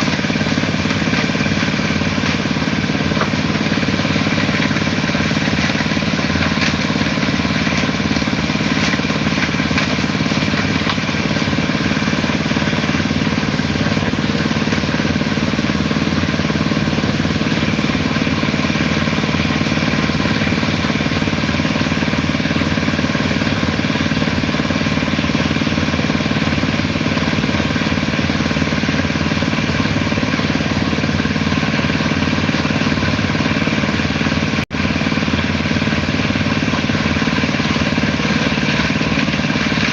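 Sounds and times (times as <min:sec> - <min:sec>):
concrete mixer engine running: 0:00.0 - 0:39.9.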